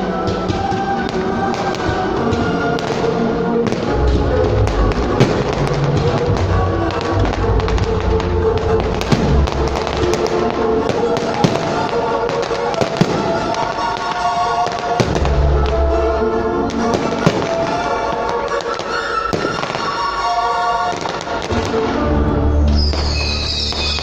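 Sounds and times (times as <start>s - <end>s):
fireworks bursting and crackling: 0.0s - 24.0s
loud music: 0.0s - 24.0s.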